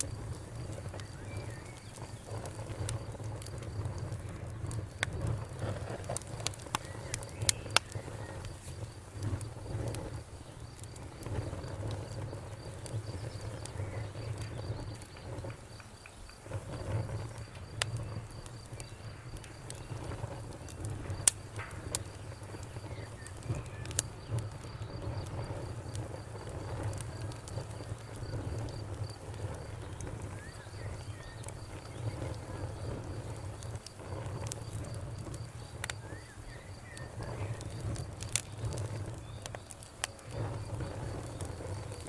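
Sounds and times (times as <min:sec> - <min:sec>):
crickets chirping: 0:00.0 - 0:42.0
low rumble of flame: 0:00.0 - 0:42.0
wood fire crackling and popping: 0:00.0 - 0:42.0.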